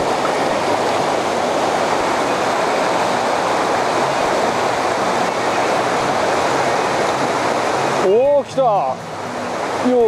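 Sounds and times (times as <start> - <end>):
river rushing over stones: 0.0 - 10.0.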